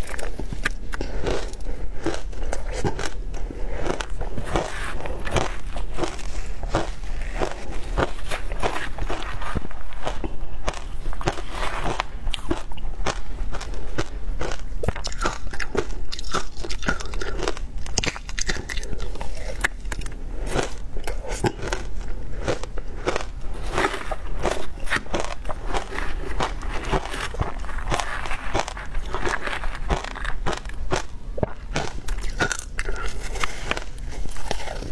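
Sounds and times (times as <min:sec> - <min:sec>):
crunching and chewing ice: 0:00.0 - 0:34.9.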